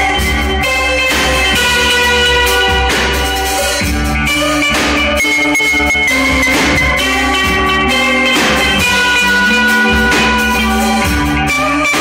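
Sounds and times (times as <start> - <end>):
distorted electric guitars: 0.0 - 12.0
drum kit: 0.0 - 12.0.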